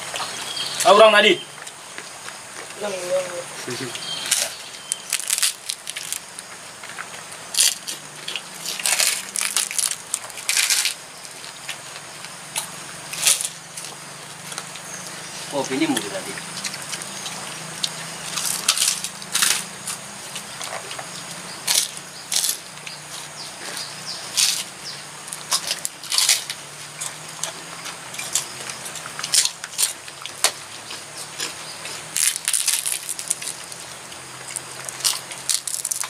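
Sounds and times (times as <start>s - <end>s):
crunching of fried food: 3.6s - 36.0s.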